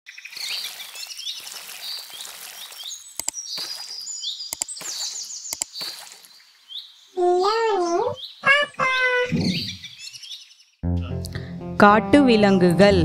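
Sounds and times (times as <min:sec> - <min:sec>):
birds chirping and trilling: 0:00.1 - 0:10.8.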